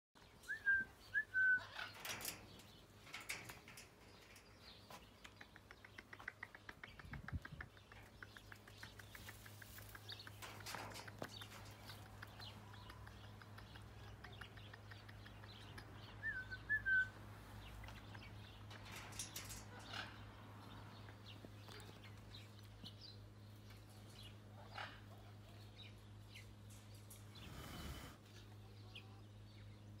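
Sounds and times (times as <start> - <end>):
steady low hum: 0.3 - 30.0.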